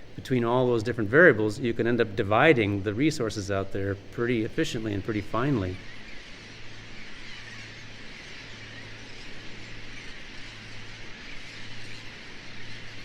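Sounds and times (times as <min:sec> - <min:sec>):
distant birds twittering: 0:00.0 - 0:13.0
steady low hum: 0:00.0 - 0:13.0.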